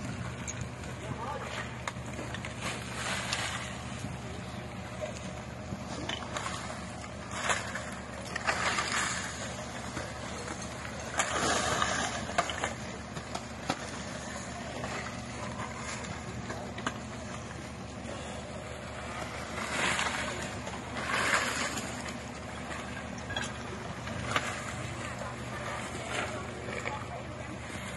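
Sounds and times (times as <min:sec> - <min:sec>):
engine humming: 0:00.0 - 0:27.9.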